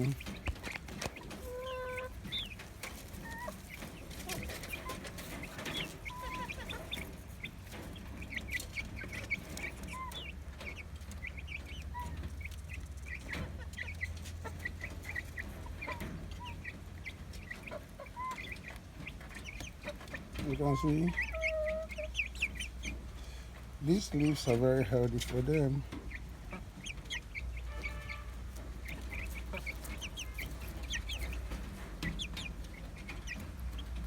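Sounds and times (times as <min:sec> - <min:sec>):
chicks cheeping and clucking: 0:00.0 - 0:34.0.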